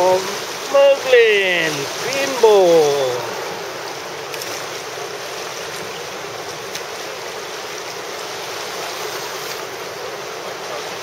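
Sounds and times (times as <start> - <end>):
river rapid rushing: 0.0 - 11.0.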